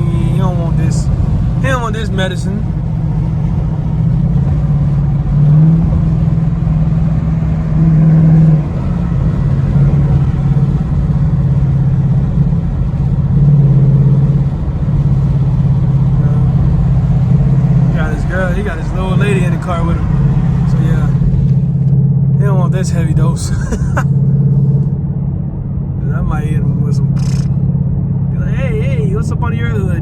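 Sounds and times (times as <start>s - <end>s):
car engine exhaust drone: 0.0s - 30.0s.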